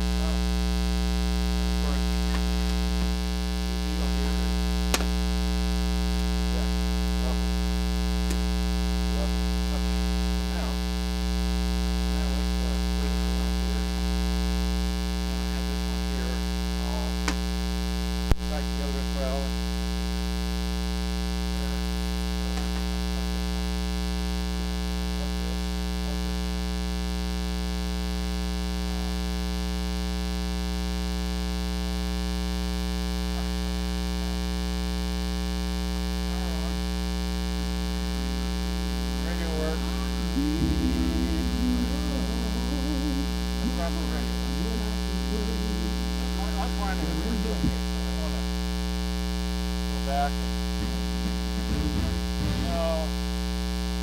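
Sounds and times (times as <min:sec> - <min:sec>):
mains hum: 0:00.0 - 0:54.0.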